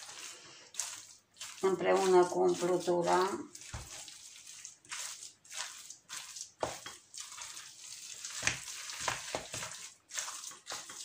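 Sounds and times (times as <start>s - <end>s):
hand squishing moist filling: 0.0s - 11.0s.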